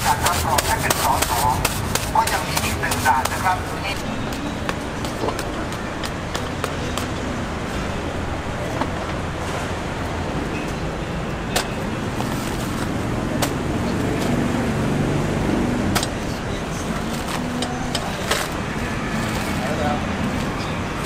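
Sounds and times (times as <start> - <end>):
market bustle: 0.0 - 21.0
traffic: 0.0 - 21.0.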